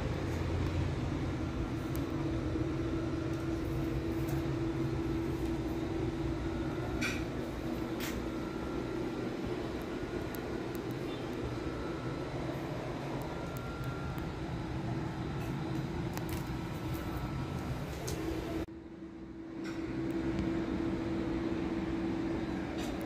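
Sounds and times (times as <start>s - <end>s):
low rumble with droning hum: 0.0s - 23.0s.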